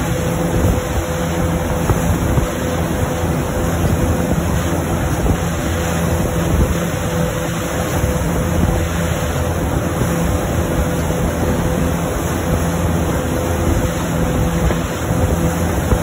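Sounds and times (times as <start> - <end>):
boat engine running: 0.0 - 16.0
churning wake water: 0.0 - 16.0
wind on microphone: 0.0 - 16.0.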